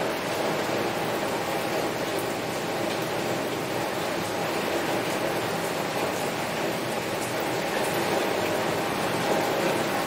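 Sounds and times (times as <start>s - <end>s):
heavy rain on a window: 0.0s - 10.0s.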